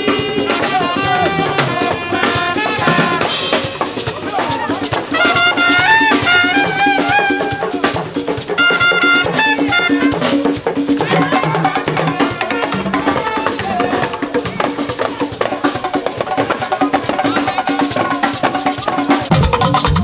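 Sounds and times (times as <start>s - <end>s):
band music with congas: 0.0s - 20.0s.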